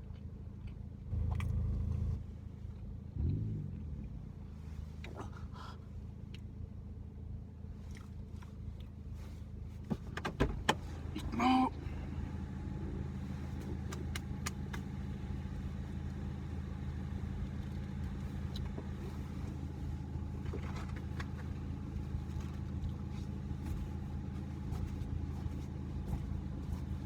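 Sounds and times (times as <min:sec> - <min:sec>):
car engine idling: 0:00.1 - 0:27.0.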